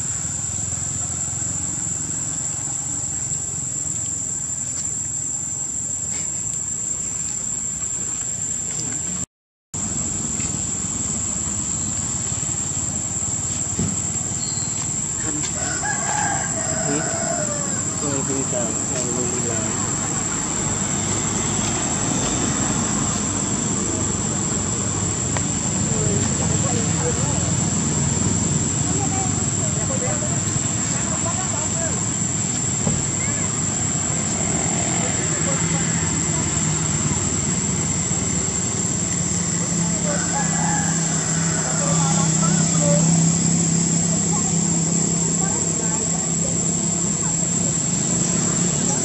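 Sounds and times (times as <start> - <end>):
insects buzzing: 0.0 - 49.0
outdoor background rumble and hiss: 0.0 - 49.0.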